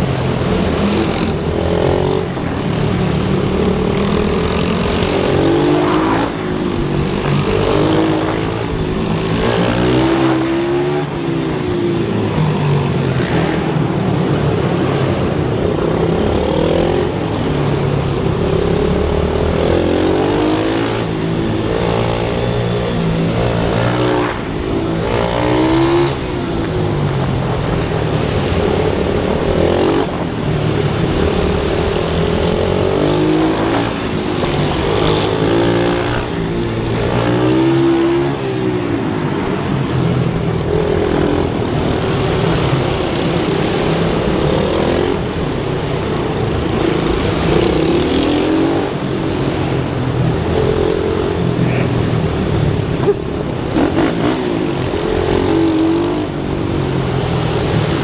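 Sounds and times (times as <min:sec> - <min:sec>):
small motorcycle engines revving: 0:00.0 - 0:58.0.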